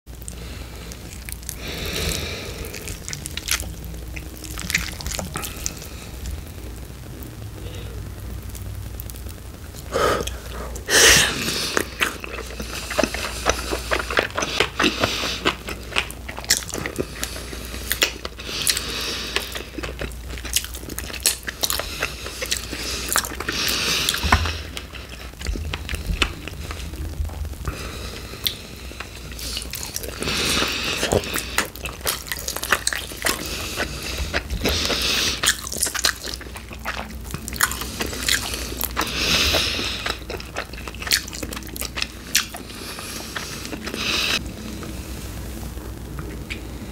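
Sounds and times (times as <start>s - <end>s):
biting and chewing chicken wings: 0.2s - 6.4s, 11.1s - 44.4s.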